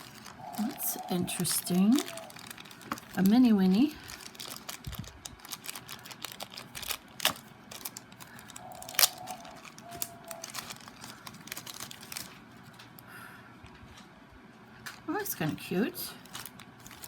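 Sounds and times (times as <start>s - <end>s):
packaging crinkling: 0.0s - 13.0s, 16.1s - 17.0s.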